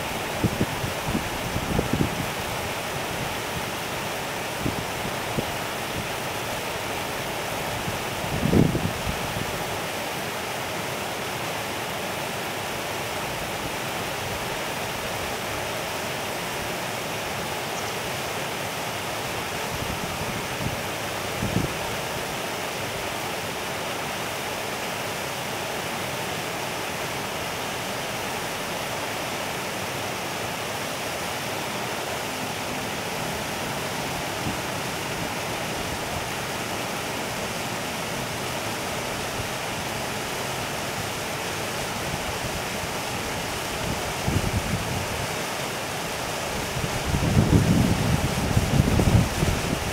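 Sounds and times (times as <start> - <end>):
river water rushing over weir: 0.0 - 49.9.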